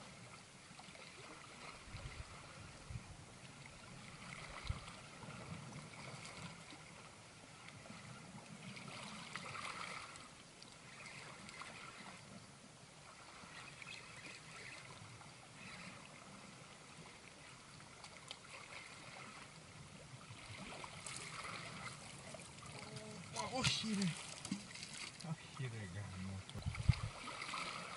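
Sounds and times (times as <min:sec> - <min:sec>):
sea water lapping and gurgling: 0:00.0 - 0:27.9.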